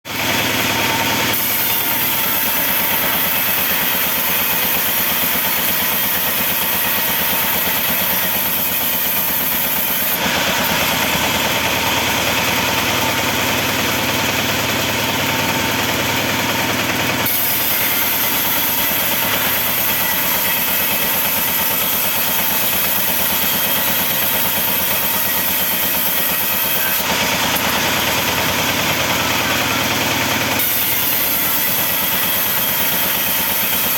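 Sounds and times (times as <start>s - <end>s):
sawmill machinery running: 0.1s - 33.9s.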